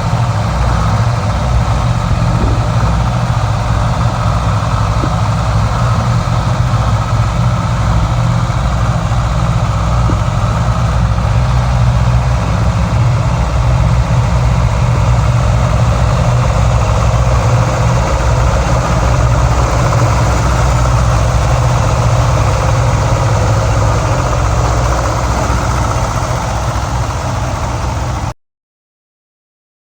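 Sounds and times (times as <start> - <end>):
diesel engine running: 0.0 - 28.4.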